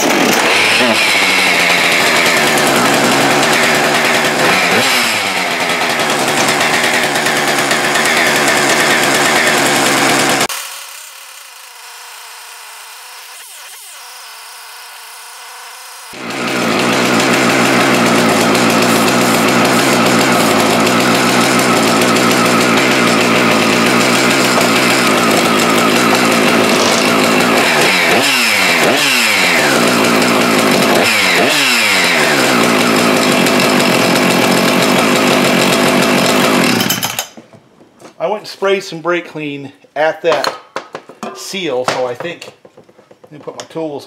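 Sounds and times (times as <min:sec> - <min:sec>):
chainsaw engine running: 0:00.0 - 0:37.4.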